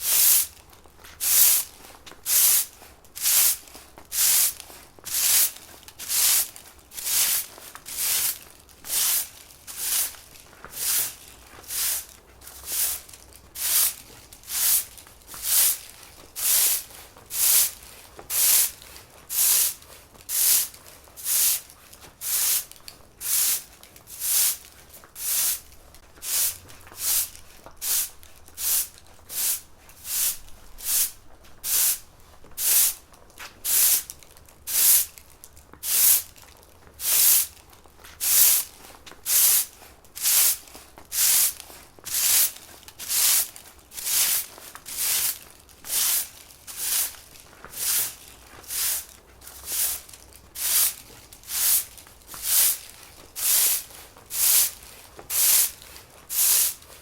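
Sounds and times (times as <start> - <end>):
broom sweeping a floor: 0.0 - 57.0.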